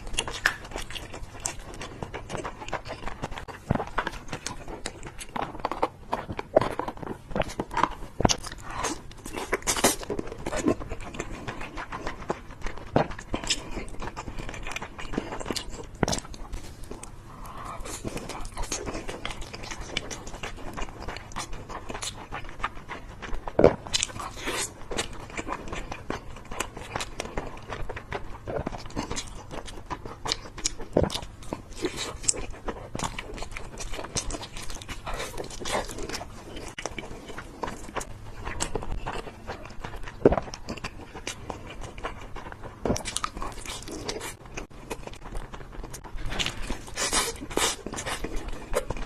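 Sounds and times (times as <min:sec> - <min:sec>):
chewing crunchy food: 0:00.0 - 0:49.0.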